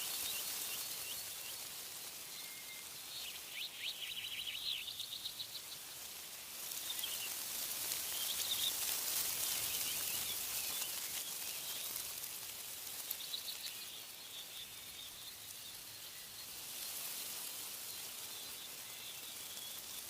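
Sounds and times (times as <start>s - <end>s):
small birds chirping: 0.0s - 20.0s
wind in tree leaves: 0.0s - 20.0s.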